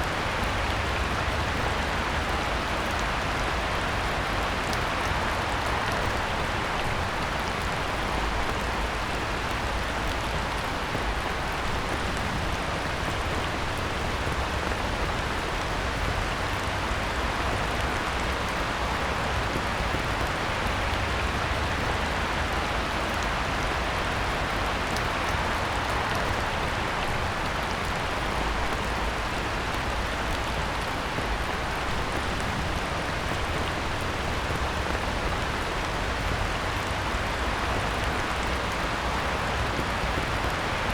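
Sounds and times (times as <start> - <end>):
heavy rain on a pond: 0.0 - 40.9.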